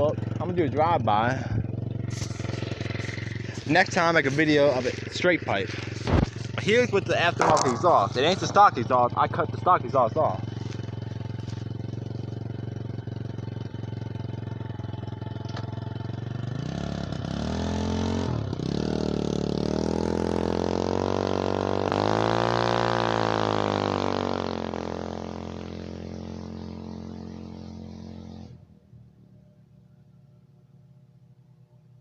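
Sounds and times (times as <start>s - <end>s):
scooter engine driving by: 0.0s - 30.4s.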